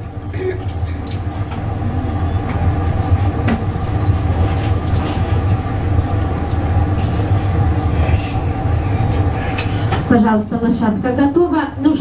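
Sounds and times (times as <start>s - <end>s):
furnace burner and blower hum: 0.0s - 12.0s.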